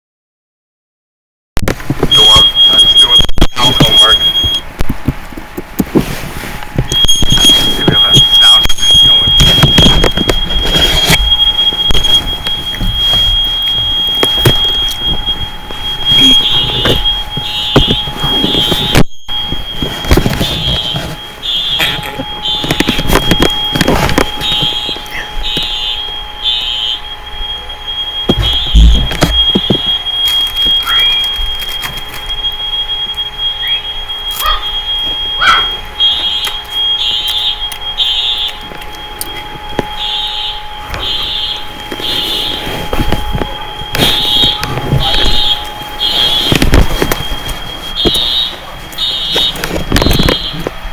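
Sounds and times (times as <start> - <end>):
fire alarm beeping: 1.6 - 50.9
fire alarm steady tone: 1.6 - 50.9.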